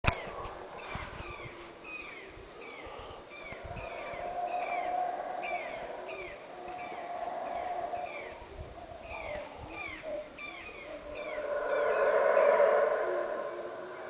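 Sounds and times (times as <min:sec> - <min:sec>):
howler monkeys roaring: 0:00.2 - 0:14.0.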